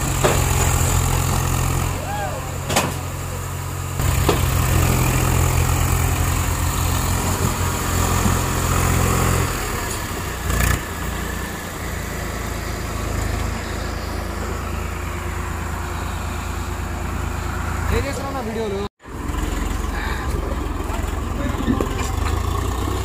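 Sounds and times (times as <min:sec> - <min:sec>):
diesel tractor engines straining: 0:00.0 - 0:23.0.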